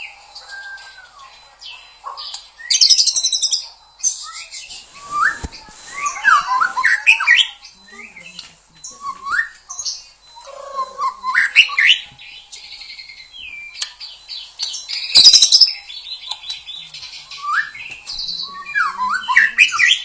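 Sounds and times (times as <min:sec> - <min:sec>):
songbird whistling and chattering: 0:00.0 - 0:20.0.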